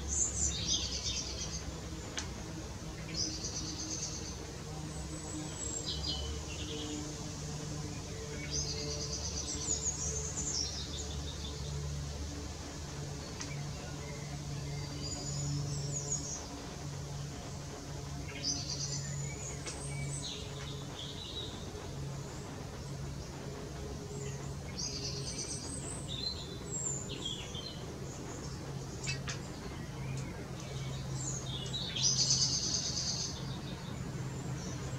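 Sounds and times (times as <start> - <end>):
small songbirds singing: 0.0 - 34.9
steady low hum: 0.0 - 34.9.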